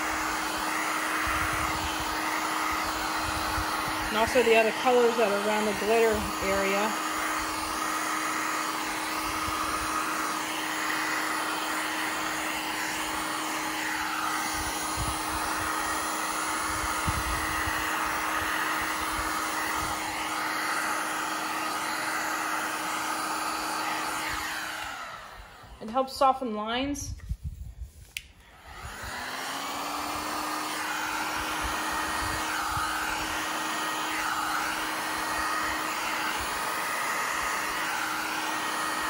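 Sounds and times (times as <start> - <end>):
heat gun blowing air: 0.0 - 39.0.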